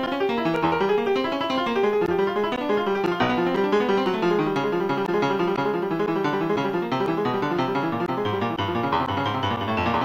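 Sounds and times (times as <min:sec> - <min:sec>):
keyboard playing fast runs: 0:00.0 - 0:10.0.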